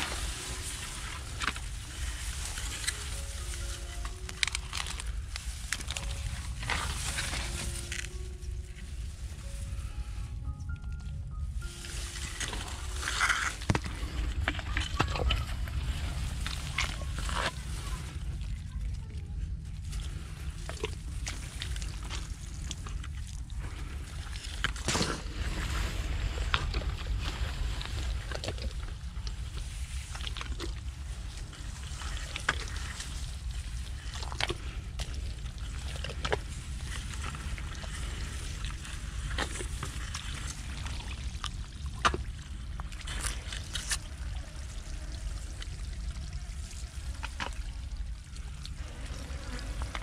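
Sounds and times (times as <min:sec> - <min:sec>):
muddy water splashing: 0:00.0 - 0:09.7, 0:11.6 - 0:50.0
steady low rumble: 0:00.0 - 0:50.0.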